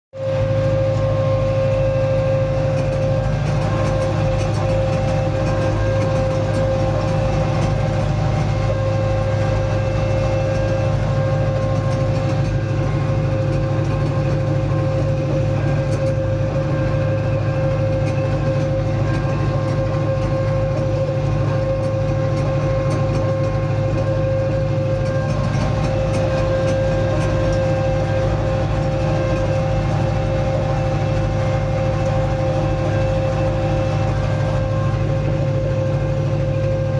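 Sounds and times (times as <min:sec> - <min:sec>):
steady high-pitched tone: 0:00.2 - 0:36.9
tractor engine humming: 0:00.2 - 0:36.9.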